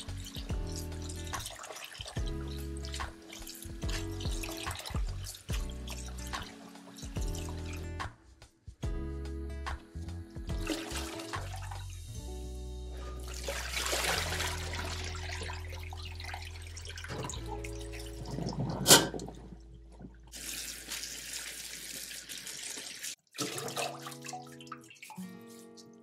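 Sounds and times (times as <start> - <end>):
rinse water poured off: 0.0 - 8.0, 10.6 - 12.0, 13.1 - 26.0
water splashing in a metal sink: 0.0 - 8.1, 10.5 - 12.0, 13.1 - 26.0.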